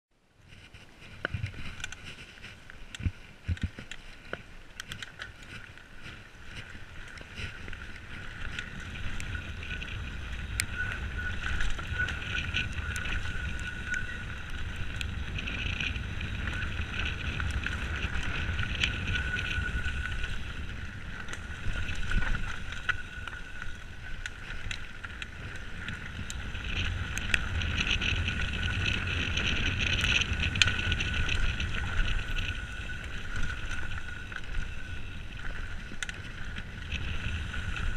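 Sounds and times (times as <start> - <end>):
wind and tyre rumble: 0.1 - 37.9
bike rattling and knocking: 0.5 - 37.9.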